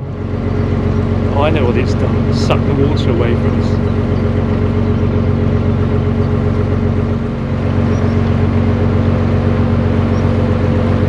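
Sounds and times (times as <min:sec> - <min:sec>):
boat diesel engine droning: 0:00.0 - 0:11.0
steady hum: 0:00.0 - 0:11.0.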